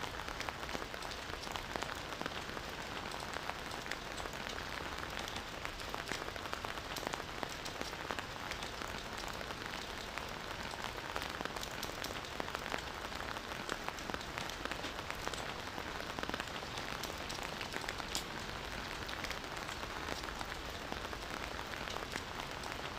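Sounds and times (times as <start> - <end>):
raindrops ticking: 0.2 - 22.9.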